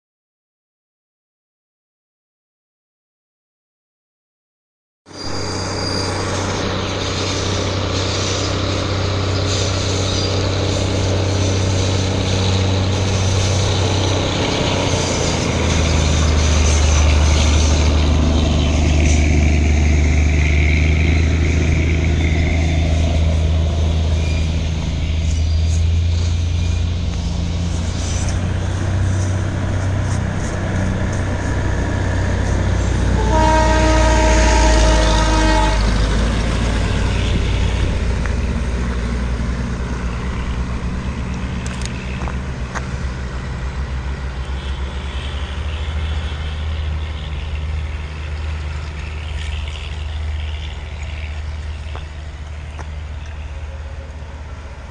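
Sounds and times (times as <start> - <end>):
vehicle engine rumbling: 5.1 - 54.9.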